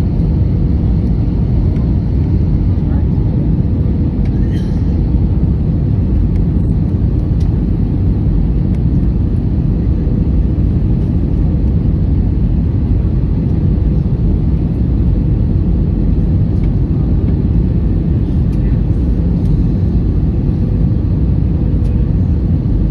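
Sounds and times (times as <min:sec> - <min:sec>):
airliner engines rumbling: 0:00.0 - 0:22.9.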